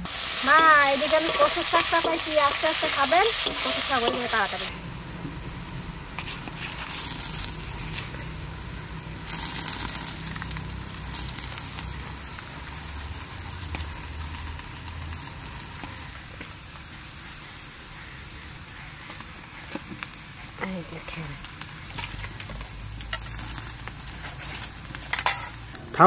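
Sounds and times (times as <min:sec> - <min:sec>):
hot oil sizzling and crackling: 0:00.0 - 0:26.0.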